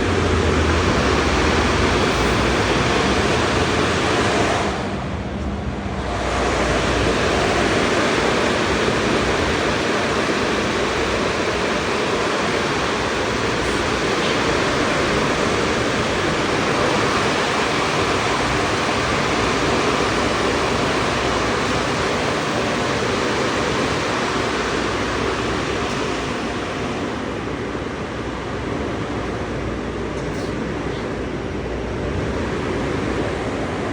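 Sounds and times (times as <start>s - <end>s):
car wash equipment rushing: 0.0s - 33.9s.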